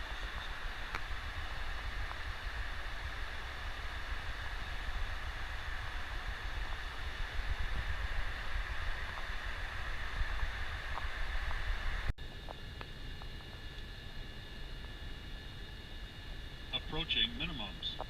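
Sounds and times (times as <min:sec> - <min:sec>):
faint high steady hum: 0:00.0 - 0:18.0.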